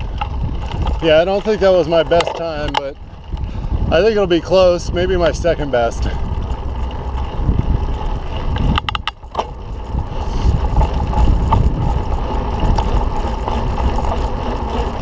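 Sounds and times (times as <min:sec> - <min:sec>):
bike clicks and rattles: 0:00.0 - 0:15.0
wind rumbling on microphone: 0:00.0 - 0:15.0.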